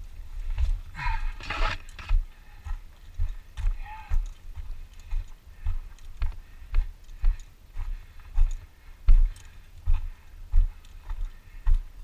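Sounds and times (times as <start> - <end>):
footsteps on gravel: 0.0 - 12.0.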